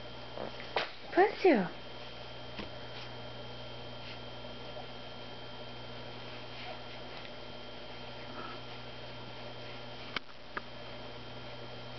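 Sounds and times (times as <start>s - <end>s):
electrical hum: 0.0s - 11.9s.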